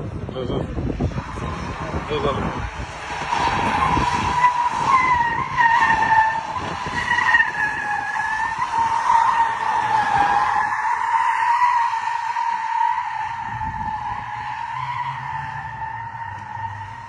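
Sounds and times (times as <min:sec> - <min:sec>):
car tyres squealing: 0:00.3 - 0:17.0.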